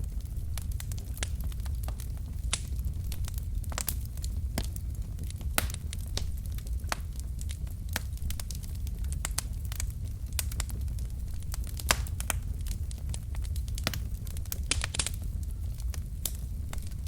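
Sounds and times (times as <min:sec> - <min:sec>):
fire low rumble: 0:00.0 - 0:17.0
logs crackling and popping: 0:00.0 - 0:17.0.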